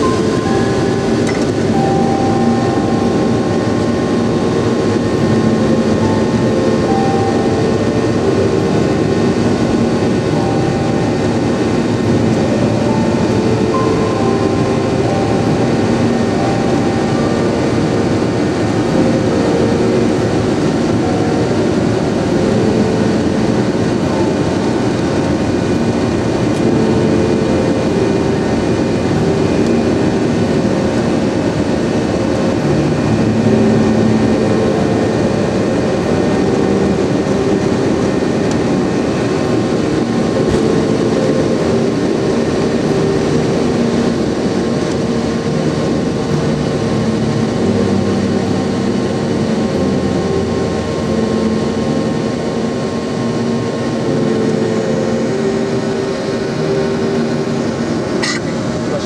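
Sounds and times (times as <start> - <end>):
vehicle rumble in motion: 0.0 - 59.0.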